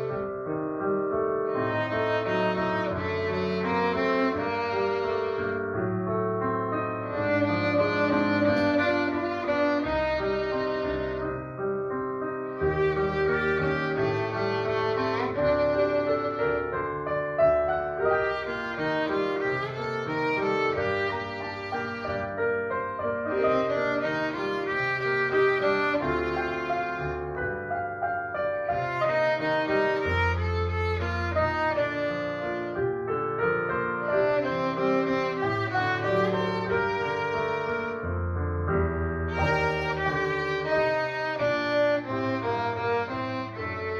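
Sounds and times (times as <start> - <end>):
piano accompaniment: 0.0 - 43.9
violin melody: 0.0 - 43.9.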